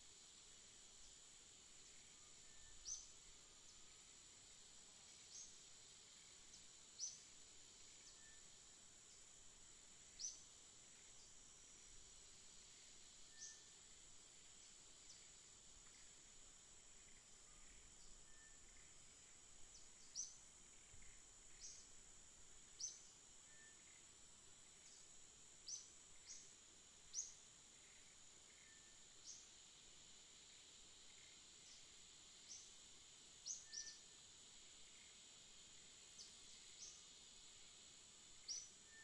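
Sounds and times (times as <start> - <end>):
steady high-pitched hiss: 0.0 - 39.0.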